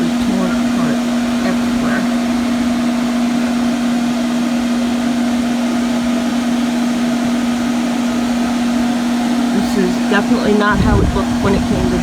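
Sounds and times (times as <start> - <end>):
small electric motor humming: 0.0 - 12.0.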